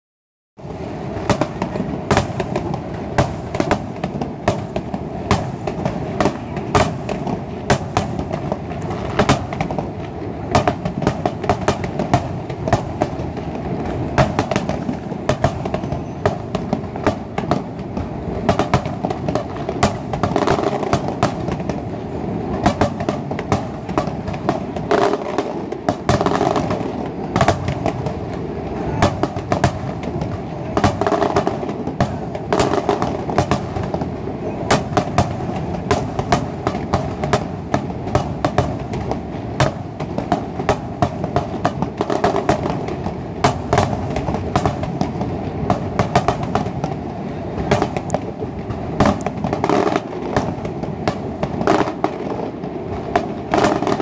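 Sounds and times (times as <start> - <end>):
fireworks bangs: 0.6 - 54.0
rumble of distant explosions: 0.6 - 54.0.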